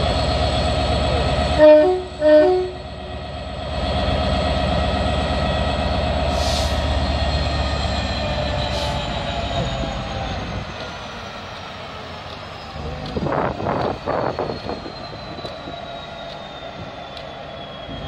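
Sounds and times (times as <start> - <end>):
diesel locomotive engine throbbing: 0.0 - 18.0.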